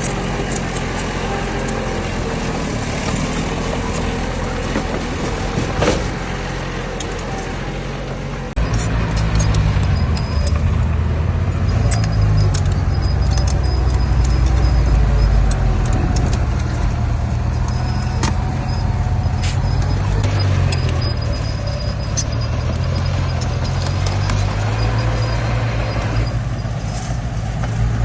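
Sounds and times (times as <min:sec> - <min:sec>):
heavy diesel engine rumbling: 0:00.0 - 0:28.0.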